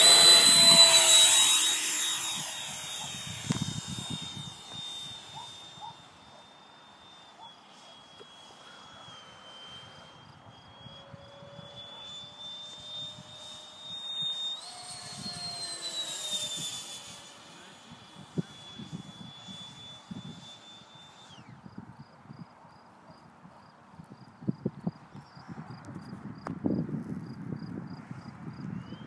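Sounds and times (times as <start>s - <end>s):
model jet fan motor whine: 0.0s - 29.0s.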